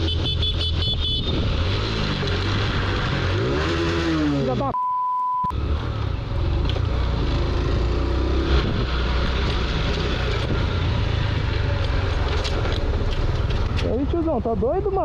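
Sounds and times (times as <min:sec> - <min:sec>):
road and wind noise: 0:00.0 - 0:04.8, 0:05.4 - 0:15.0.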